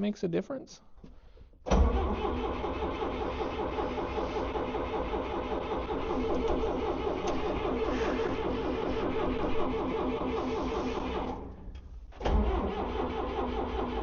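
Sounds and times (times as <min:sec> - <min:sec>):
engine cranking by starter: 0:01.6 - 0:14.0.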